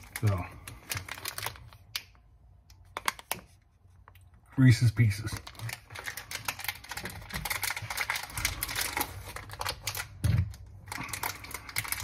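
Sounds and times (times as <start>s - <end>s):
plastic wrapper crinkling: 0.0s - 4.4s, 5.0s - 12.0s.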